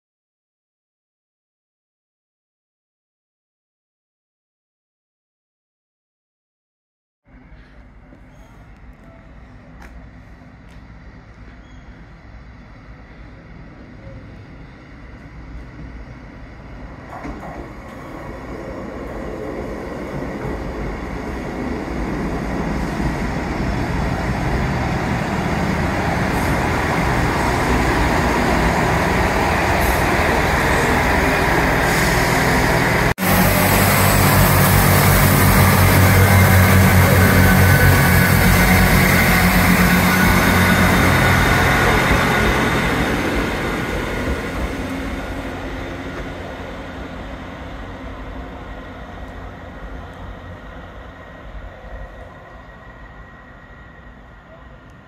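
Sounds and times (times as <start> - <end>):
train arriving rumble: 7.3 - 55.0.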